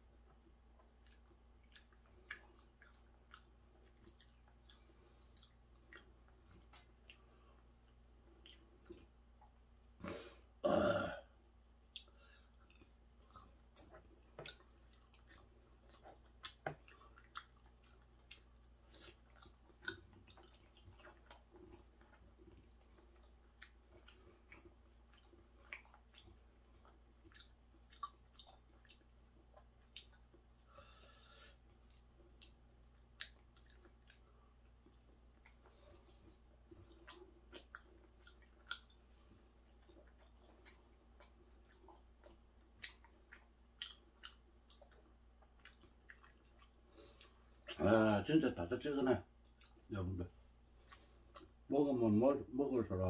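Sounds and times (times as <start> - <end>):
chewing raw fish: 0.0 - 52.4.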